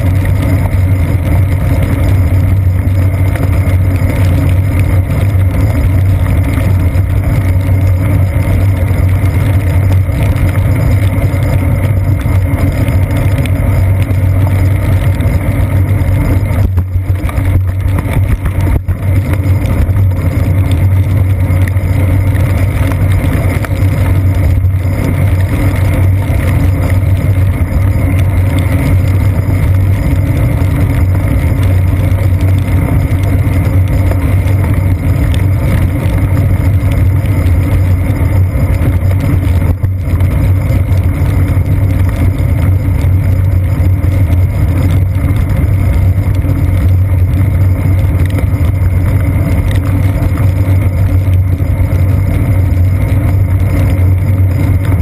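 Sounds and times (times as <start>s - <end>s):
bicycle road rumble and wind: 0.0s - 55.0s.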